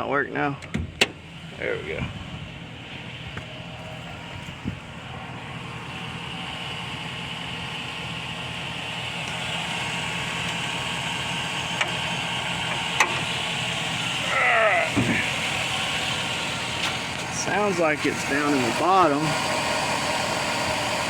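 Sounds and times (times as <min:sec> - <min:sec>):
constant engine whine: 0:00.0 - 0:21.0
truck engine idling: 0:00.0 - 0:21.0.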